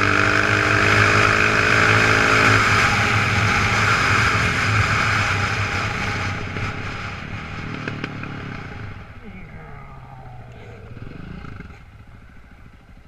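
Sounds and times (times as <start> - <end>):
motorcycle engine running: 0.0 - 13.0
rushing wind and road noise: 0.0 - 13.0.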